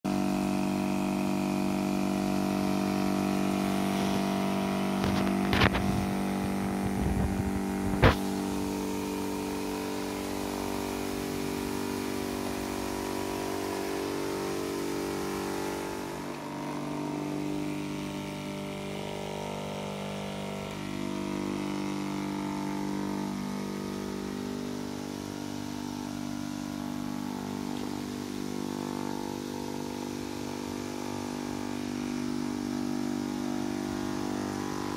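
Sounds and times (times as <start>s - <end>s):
water pump buzzing hum: 0.0s - 34.9s.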